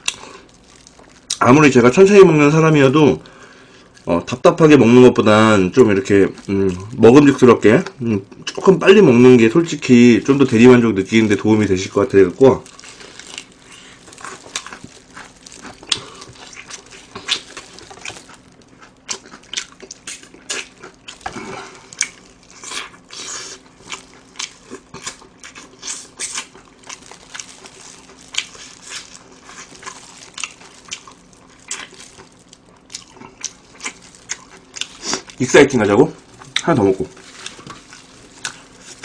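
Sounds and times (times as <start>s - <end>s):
crunchy chewing: 0.0s - 1.5s, 5.4s - 39.0s.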